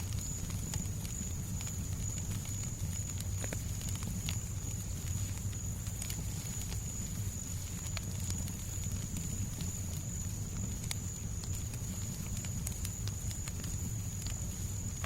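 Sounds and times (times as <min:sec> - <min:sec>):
fireplace crackling: 0:00.0 - 0:15.0
white noise low rumble: 0:00.0 - 0:15.0.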